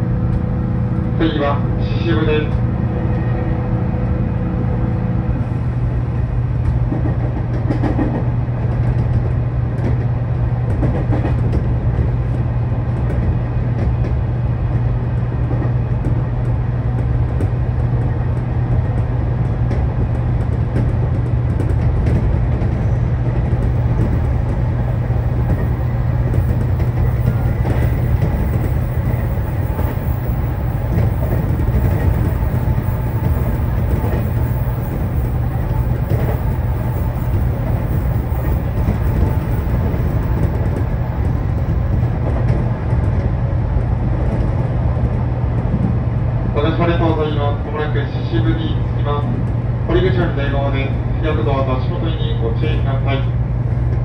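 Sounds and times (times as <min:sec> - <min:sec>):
train running hum and rumble: 0:00.0 - 0:54.0.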